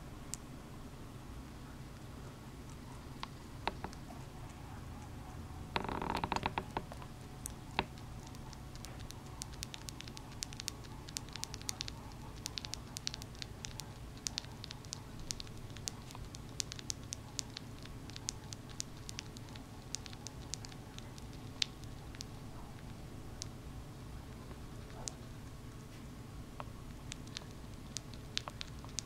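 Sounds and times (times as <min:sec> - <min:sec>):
hamster eating clicks and smacks: 0:01.7 - 0:25.5, 0:26.5 - 0:29.0.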